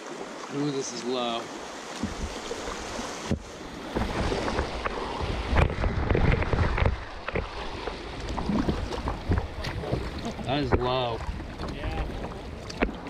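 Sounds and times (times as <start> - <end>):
river water flowing: 0.0 - 13.0
wind buffeting microphone: 2.0 - 13.0.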